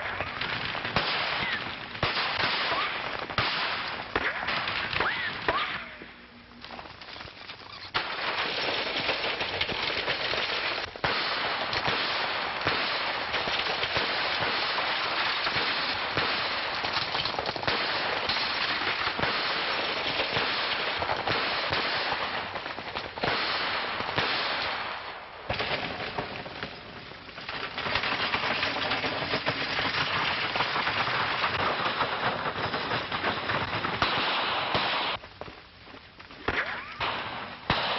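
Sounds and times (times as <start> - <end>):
gunshots: 0.0 - 6.2, 7.9 - 26.8, 27.6 - 35.2, 36.4 - 37.9.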